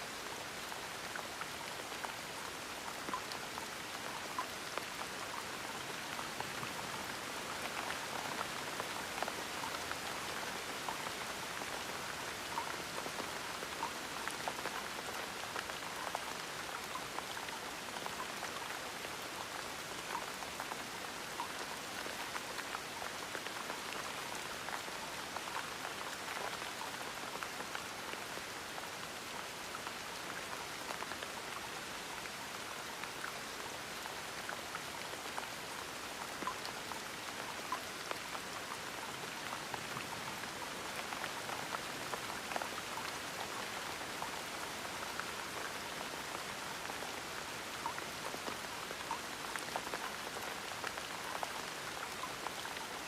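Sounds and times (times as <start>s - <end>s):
gentle rain falling: 0.0s - 53.0s.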